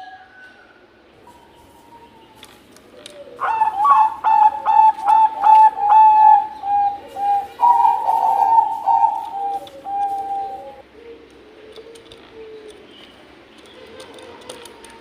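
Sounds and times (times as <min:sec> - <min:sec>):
dove cooing: 0:01.2 - 0:15.0.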